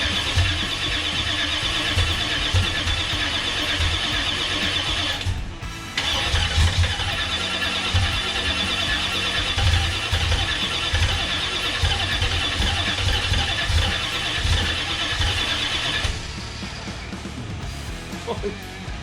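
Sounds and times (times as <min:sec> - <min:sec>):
starter motor cranking engine: 0:00.0 - 0:05.4, 0:06.0 - 0:16.6.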